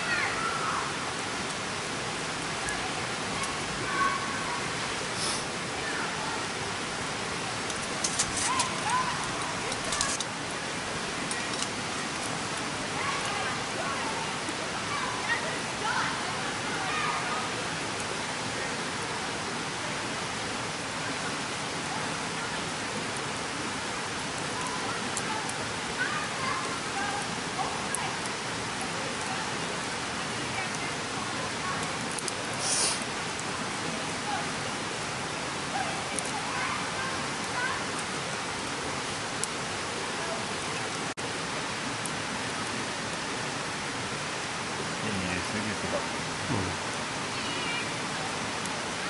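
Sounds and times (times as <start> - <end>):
mountain stream rushing: 0.0 - 49.0.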